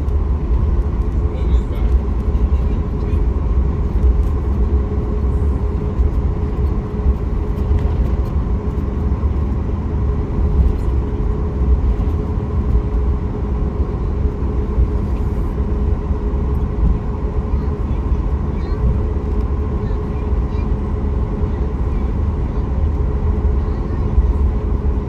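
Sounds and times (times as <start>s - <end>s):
constant hum: 0.0s - 25.0s
jet engine cabin rumble: 0.0s - 25.0s.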